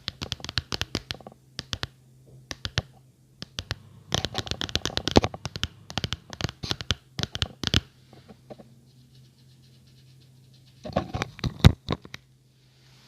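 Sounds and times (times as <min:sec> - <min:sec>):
tapping and scratching on object: 0:00.0 - 0:01.9, 0:02.5 - 0:12.2.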